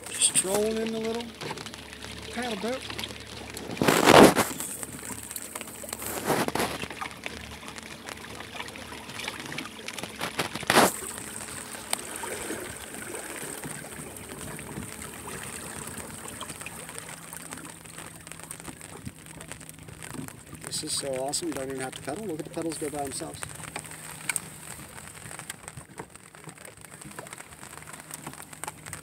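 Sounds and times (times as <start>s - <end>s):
loud water bursts: 0.0s - 25.4s
water sloshing around boat hull: 0.0s - 29.0s.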